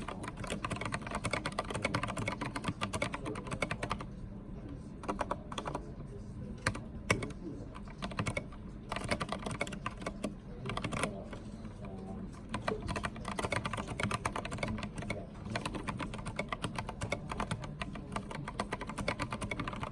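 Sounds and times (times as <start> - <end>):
mechanical keyboard typing: 0.0 - 4.1, 5.0 - 5.9, 6.6 - 19.9.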